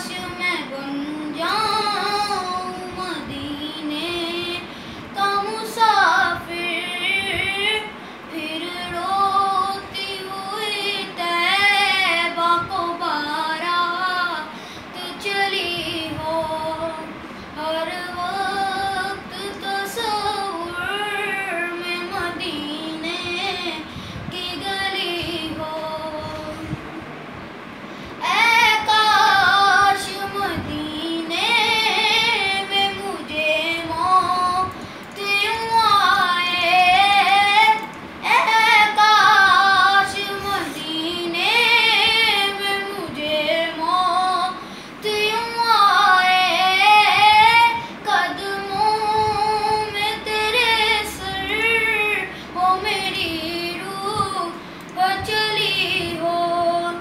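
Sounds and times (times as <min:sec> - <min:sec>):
boy singing unaccompanied: 0:00.0 - 0:26.8, 0:28.2 - 0:57.0.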